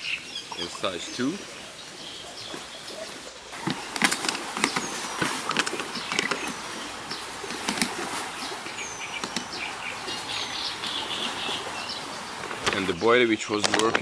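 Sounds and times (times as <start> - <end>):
bird calls: 0.0 - 13.6.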